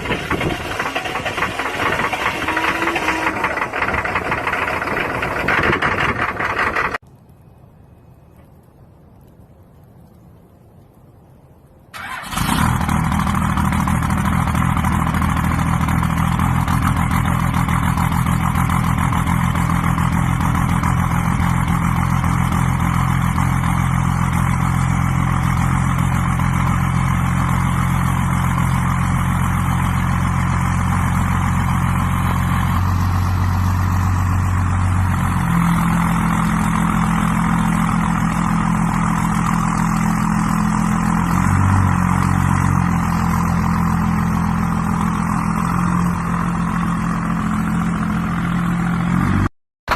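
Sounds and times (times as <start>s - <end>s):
large diesel engine running: 0.0s - 7.0s, 12.0s - 49.9s.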